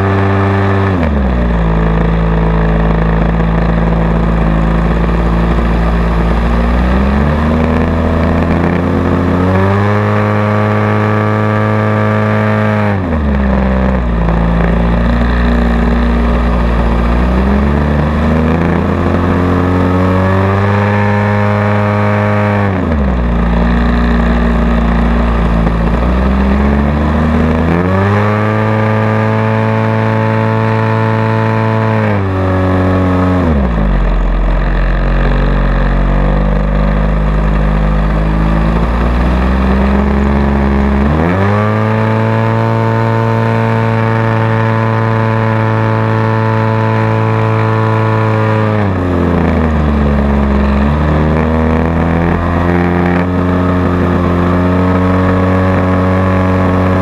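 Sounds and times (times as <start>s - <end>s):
model airplane engine: 0.0s - 57.0s.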